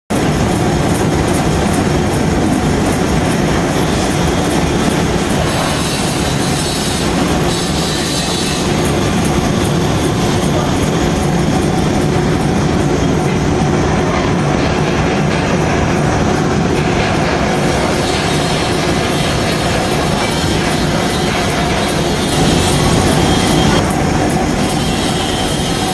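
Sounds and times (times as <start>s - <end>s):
milling machine cutting metal: 0.1s - 25.9s.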